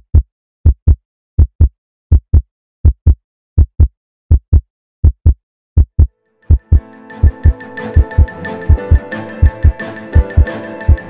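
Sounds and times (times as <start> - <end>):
heartbeat double thumps: 0.0 - 9.0.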